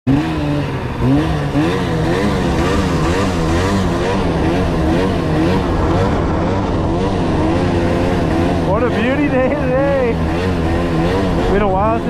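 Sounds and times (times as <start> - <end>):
snowmobile engine revving: 0.1 - 12.0.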